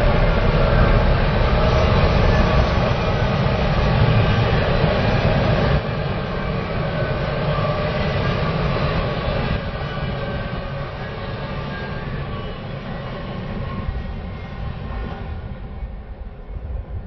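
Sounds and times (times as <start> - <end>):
train passing close by: 0.0 - 17.0.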